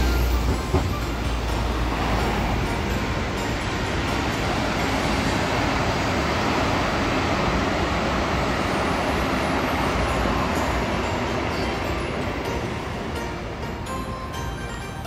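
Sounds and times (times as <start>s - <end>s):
train wheels on track: 0.0s - 15.0s.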